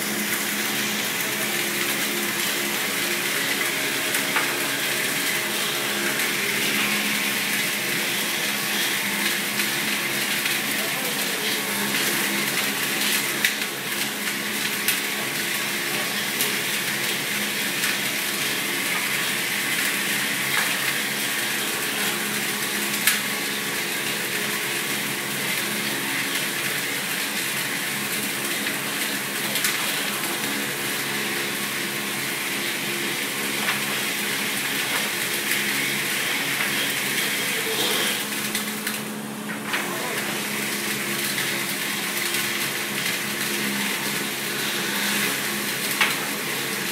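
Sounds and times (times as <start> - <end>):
wood lathe machine humming: 0.0 - 46.9.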